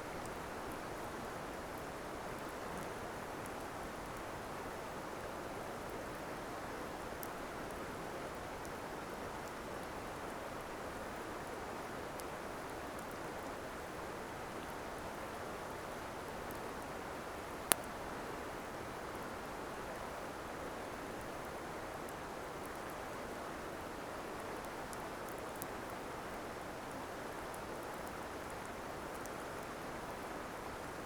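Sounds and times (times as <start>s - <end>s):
campfire crackling: 0.0s - 10.3s, 14.7s - 31.0s.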